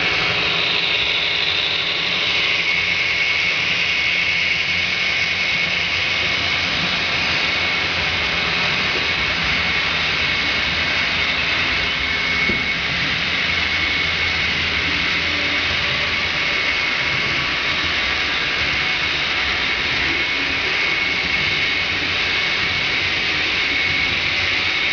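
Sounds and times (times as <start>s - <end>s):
high-pitched whine: 0.0s - 24.9s
model train wheels rumbling: 0.0s - 24.9s.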